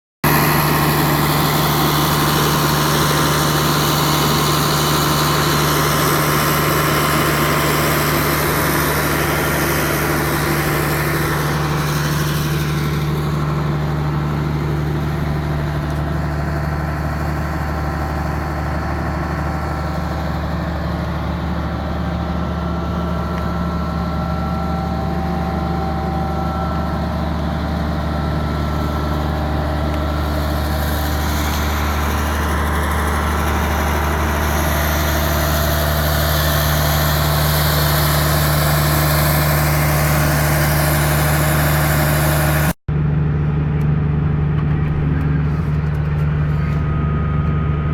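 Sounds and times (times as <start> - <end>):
tractor diesel engine droning: 0.2 - 47.9.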